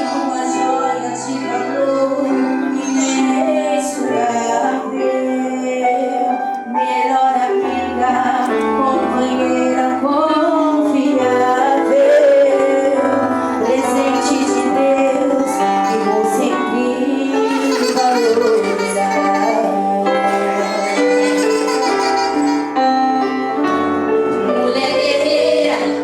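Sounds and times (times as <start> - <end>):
woman singing slow melody: 0.0 - 21.4, 24.4 - 26.0
instrumental accompaniment: 0.0 - 26.0.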